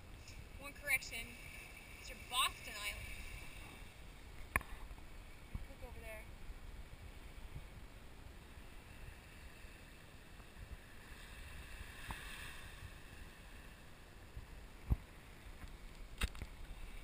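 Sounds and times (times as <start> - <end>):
faint hiss: 0.0 - 17.0
wind rumble on microphone: 0.0 - 17.0.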